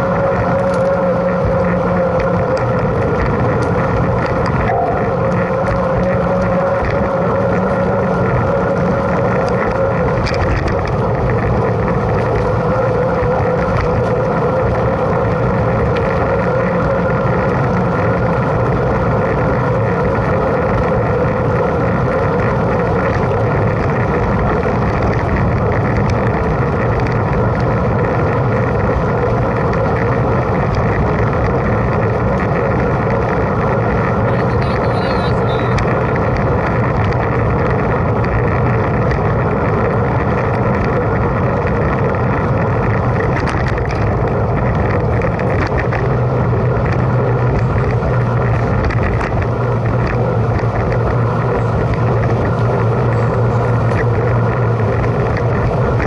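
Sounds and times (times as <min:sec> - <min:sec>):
rolling tyre noise: 0:00.0 - 0:56.0
rushing wind: 0:00.0 - 0:56.0.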